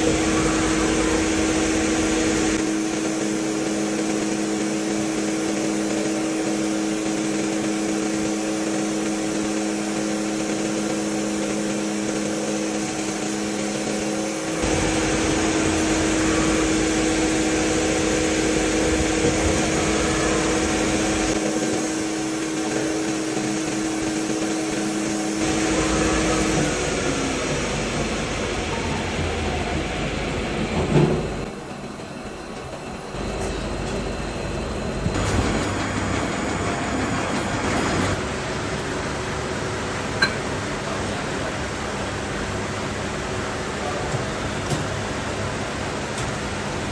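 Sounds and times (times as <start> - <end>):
machinery motor hum and whine: 0.0 - 46.9.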